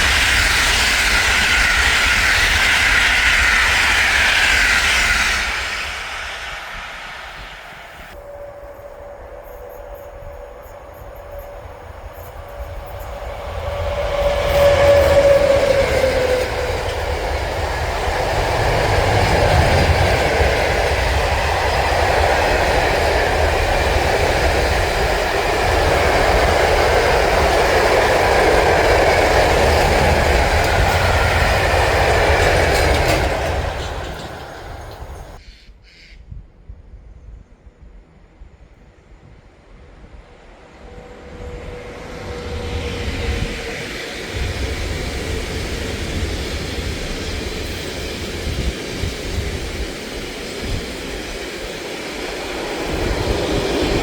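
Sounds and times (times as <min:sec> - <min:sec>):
wheel and rail rushing: 0:00.0 - 0:35.4, 0:40.0 - 0:54.0
train passing at speed: 0:00.0 - 0:35.7, 0:36.6 - 0:54.0.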